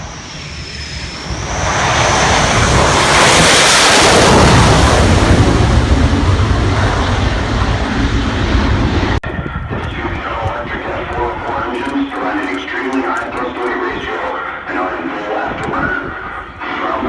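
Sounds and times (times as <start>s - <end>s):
jet aircraft roaring past: 0.0s - 17.0s.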